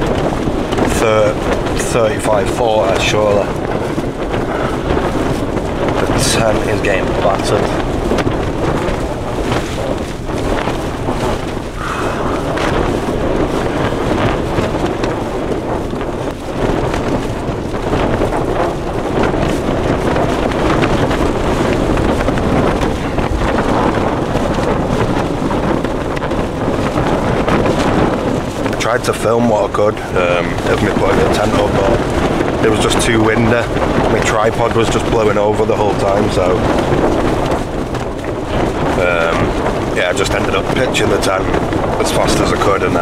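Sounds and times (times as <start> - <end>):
wind blasting across microphone: 0.0 - 43.0.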